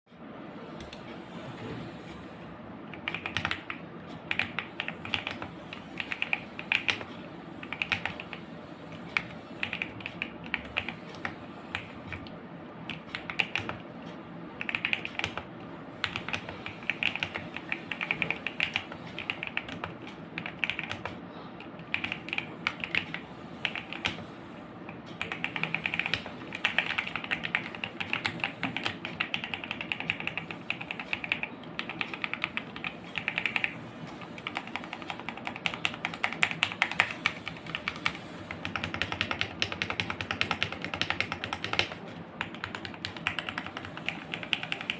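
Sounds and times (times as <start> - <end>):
mechanical keyboard typing: 2.9 - 44.9.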